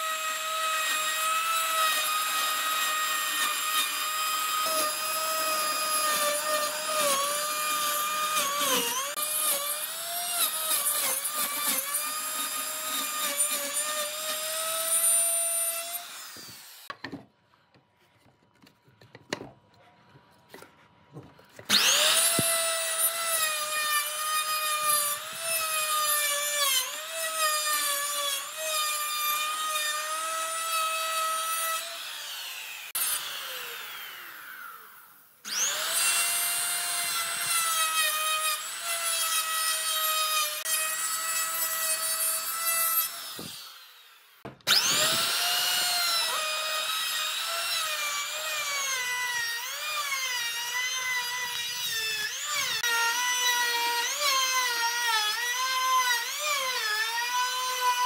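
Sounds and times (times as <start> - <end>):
electric router cutting wood: 0.0 - 16.9, 21.6 - 58.0.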